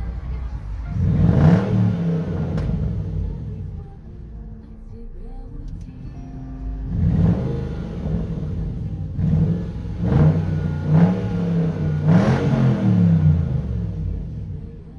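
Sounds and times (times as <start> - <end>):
car engine idling and revving: 0.0 - 14.9.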